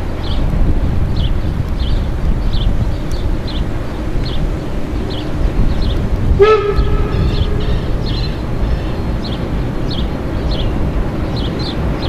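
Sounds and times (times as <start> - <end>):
distant steam train rumble: 0.0 - 12.0.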